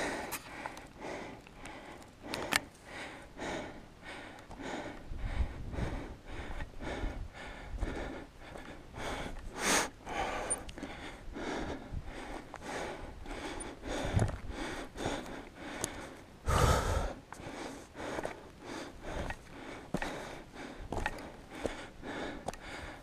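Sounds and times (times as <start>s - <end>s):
person breathing hard: 0.0s - 23.0s.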